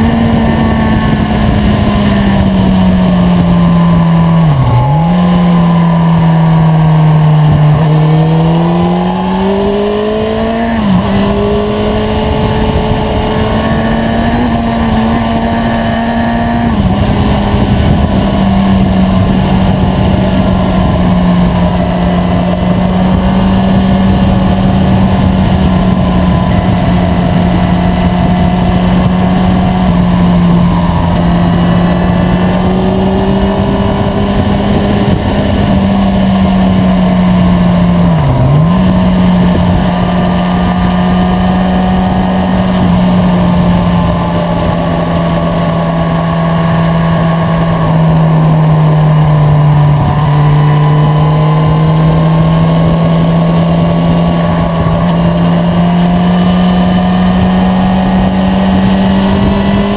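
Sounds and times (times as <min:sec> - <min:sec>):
constant rushing noise: 0:00.0 - 0:59.9
motorcycle engine cruising: 0:00.0 - 0:59.9.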